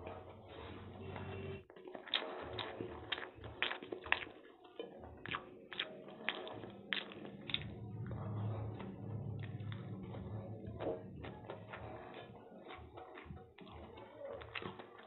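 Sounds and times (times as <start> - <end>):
slurping noodles: 0.0 - 15.0
chewing with full mouth: 1.6 - 15.0.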